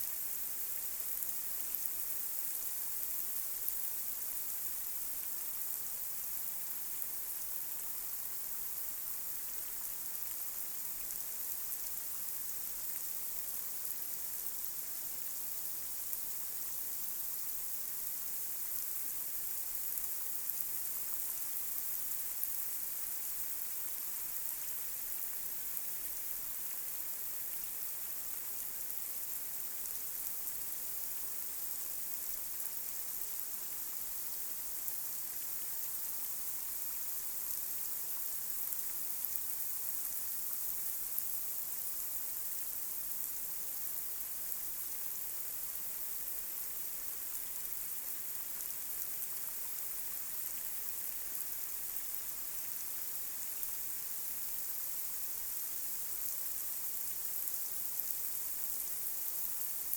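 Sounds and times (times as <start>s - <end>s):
light rain on a street: 0.0s - 59.9s.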